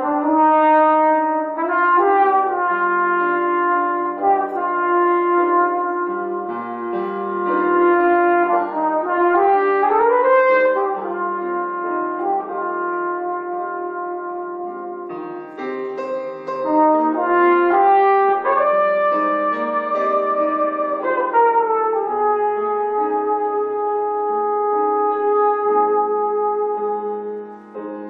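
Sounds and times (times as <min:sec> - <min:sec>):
french horn playing sustained notes: 0:00.0 - 0:15.6, 0:16.6 - 0:28.0.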